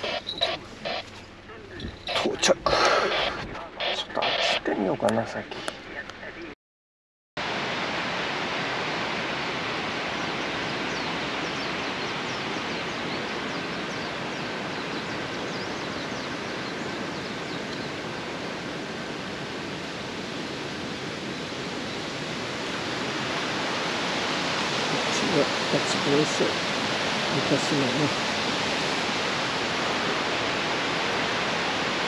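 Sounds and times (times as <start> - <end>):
rain and river rushing: 0.0 - 4.5, 7.4 - 32.0.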